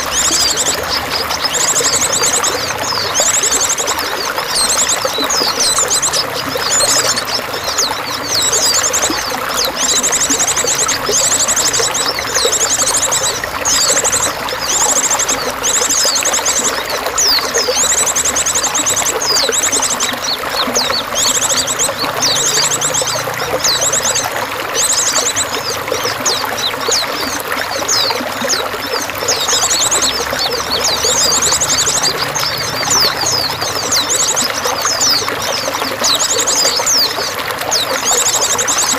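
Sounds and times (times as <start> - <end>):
birds trilling: 0.0 - 38.9
running water trickling: 0.0 - 38.9.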